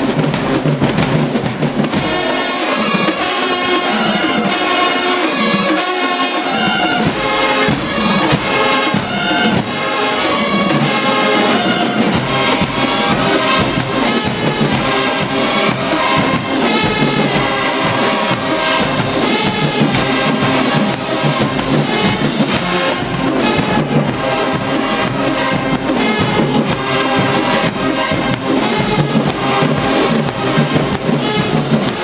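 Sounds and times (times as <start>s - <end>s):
marching band brass playing: 0.0s - 32.0s.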